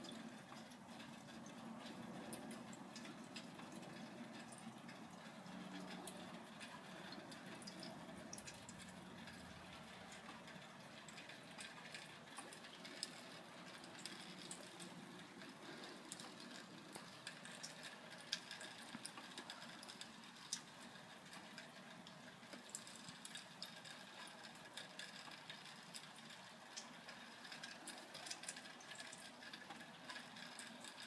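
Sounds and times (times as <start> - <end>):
low steady hiss: 0.0 - 31.0
rain drops ticking: 0.0 - 31.0.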